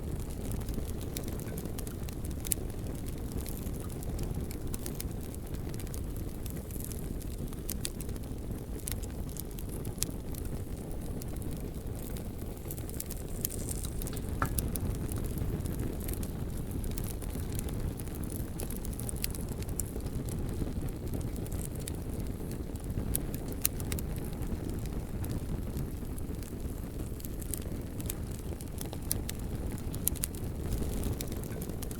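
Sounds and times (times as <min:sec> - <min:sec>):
bonfire rumbling: 0:00.0 - 0:31.9
burning logs crackling and popping: 0:00.0 - 0:31.9.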